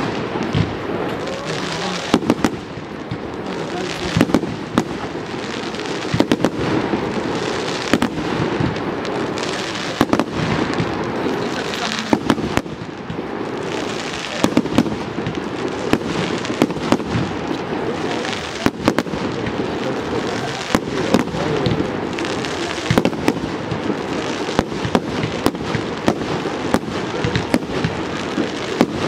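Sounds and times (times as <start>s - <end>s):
firework shells bursting with bangs: 0.0s - 29.0s
fireworks crackling: 0.0s - 29.0s.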